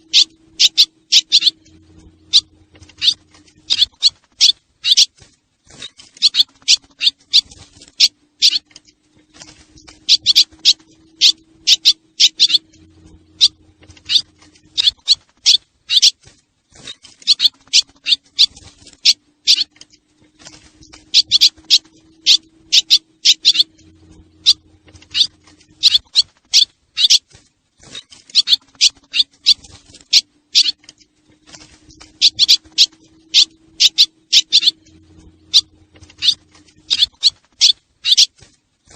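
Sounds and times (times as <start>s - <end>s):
faint low hum: 0.0s - 38.9s
swallows twittering chirps: 0.0s - 38.9s.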